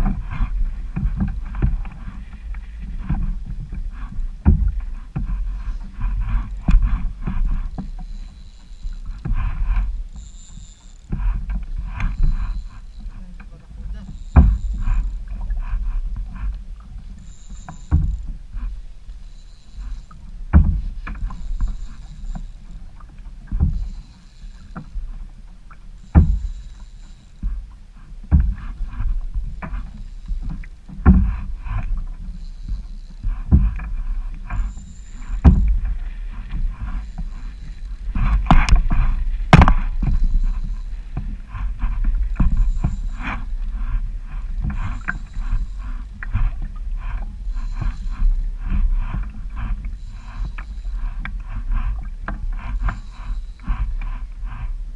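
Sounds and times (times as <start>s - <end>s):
water splashing against kayak hull: 0.0s - 54.9s
wind on microphone: 0.0s - 54.9s.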